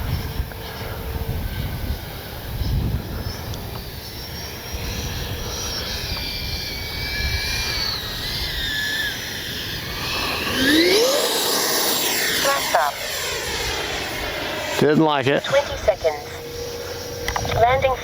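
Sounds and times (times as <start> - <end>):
electric ducted fan whining: 0.0 - 18.0.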